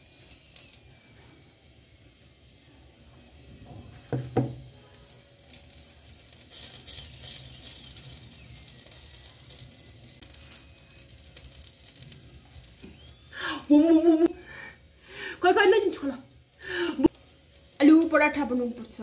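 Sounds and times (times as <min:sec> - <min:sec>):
flatbread sizzling on griddle: 0:00.0 - 0:19.0.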